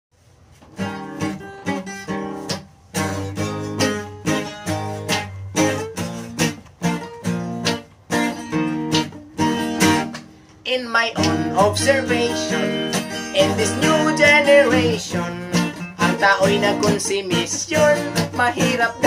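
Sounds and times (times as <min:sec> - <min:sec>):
acoustic guitar strumming: 0:00.2 - 0:19.0.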